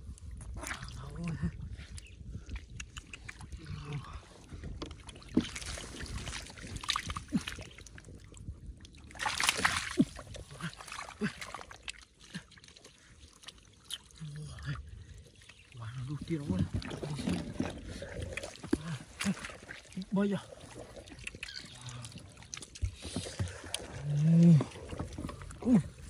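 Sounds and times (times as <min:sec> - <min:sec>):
muddy water splashing: 0:00.0 - 0:26.0.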